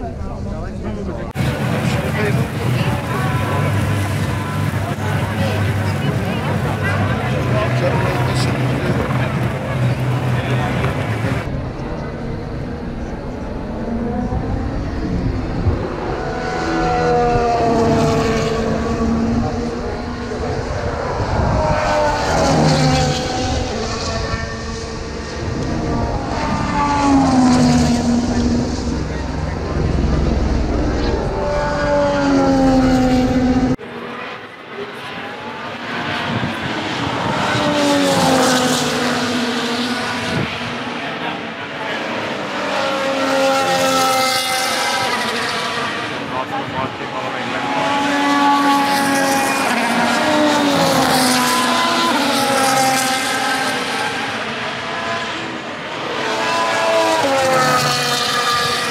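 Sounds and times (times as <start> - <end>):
racing car engine: 0.0 - 58.9.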